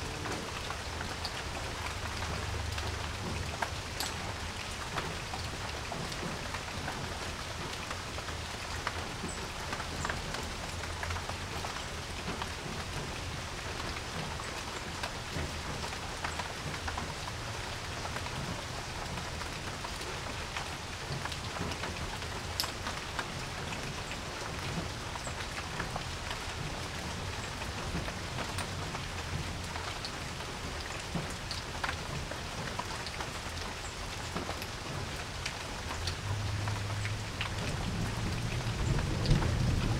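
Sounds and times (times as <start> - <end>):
rain falling on a porch: 0.0 - 39.9
raindrops ticking: 0.0 - 39.9.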